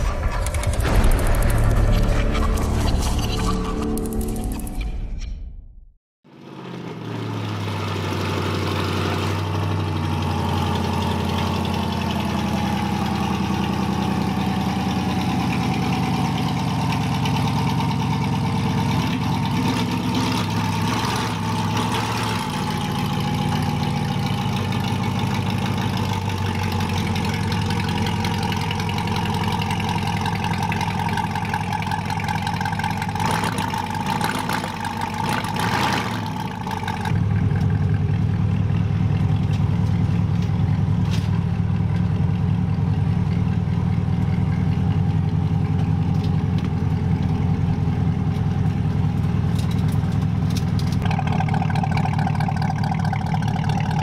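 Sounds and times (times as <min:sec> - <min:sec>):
car engine idling: 0:09.5 - 0:54.0.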